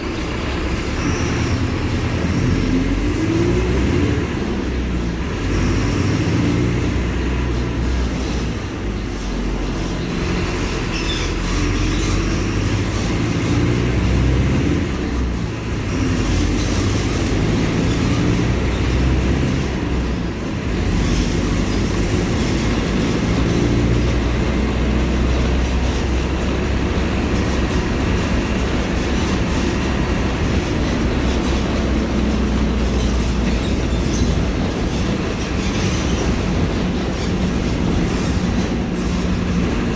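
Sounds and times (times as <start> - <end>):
bus diesel engine: 0.0 - 39.9
rattling running noise: 7.1 - 39.9.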